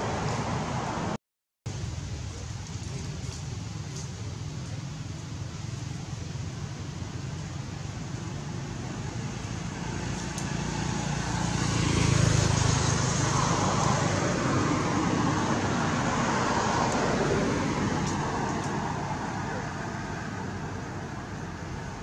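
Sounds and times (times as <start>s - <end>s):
passing motor vehicle rumble: 0.0s - 22.0s.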